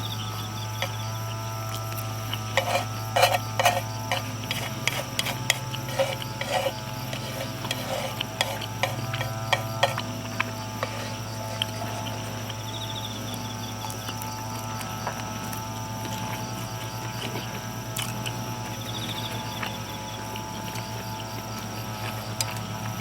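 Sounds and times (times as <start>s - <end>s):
insects trilling: 0.0s - 23.0s
steady low hum: 0.0s - 23.0s.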